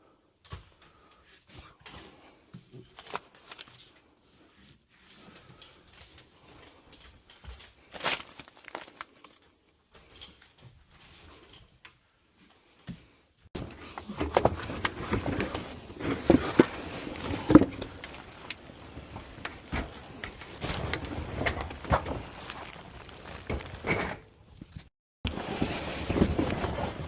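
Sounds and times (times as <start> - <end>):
objects being handled: 0.5 - 27.0.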